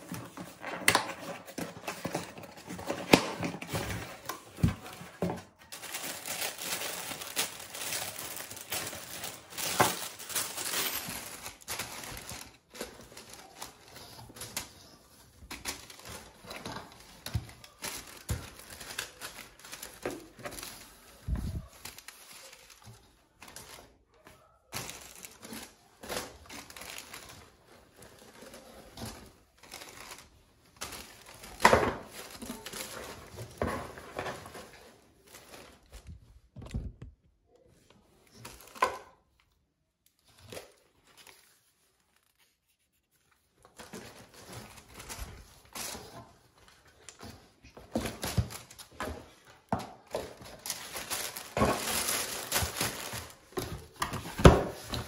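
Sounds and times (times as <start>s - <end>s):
rustling and crinkling: 0.0s - 55.0s.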